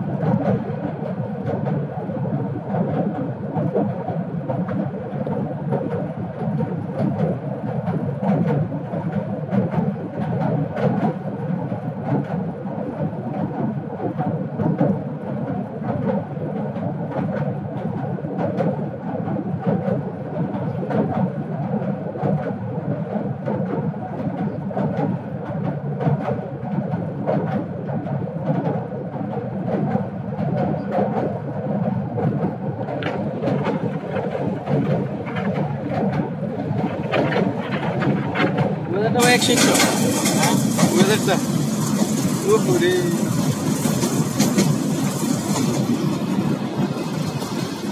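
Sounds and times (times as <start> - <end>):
train wheels rumbling on rails: 0.0 - 47.9
sharp clicks and clanks: 2.6 - 47.9.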